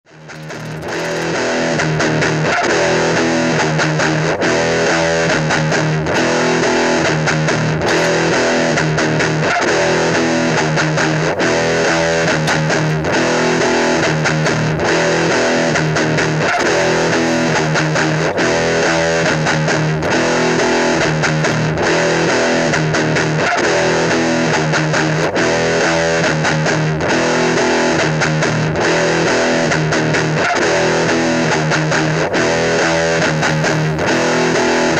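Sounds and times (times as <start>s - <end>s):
rock music with electric guitar: 0.1s - 34.9s.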